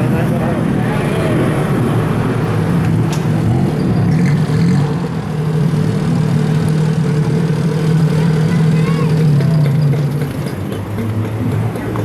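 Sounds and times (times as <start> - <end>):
auto-rickshaw engine humming: 0.0 - 12.0.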